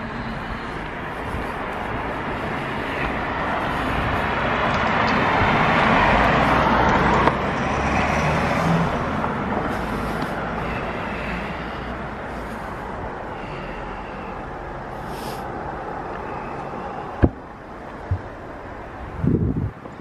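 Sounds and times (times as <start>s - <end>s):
car passing close: 0.0s - 20.0s
steady traffic noise: 0.0s - 20.0s.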